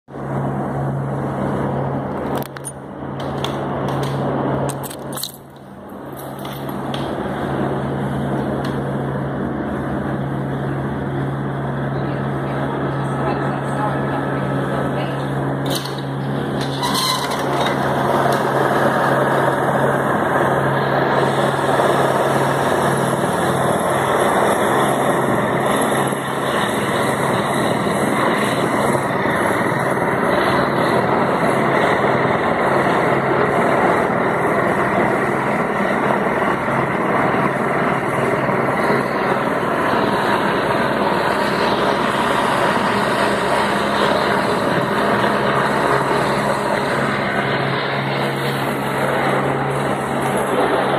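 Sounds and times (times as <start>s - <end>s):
helicopter rotor and turbine: 0.1s - 50.9s.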